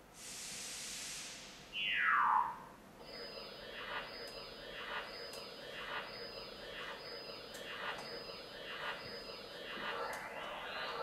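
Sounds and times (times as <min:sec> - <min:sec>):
dense clusters of electronic pitches: 0:01.7 - 0:11.0
tone sweeps rising and falling: 0:01.7 - 0:11.0.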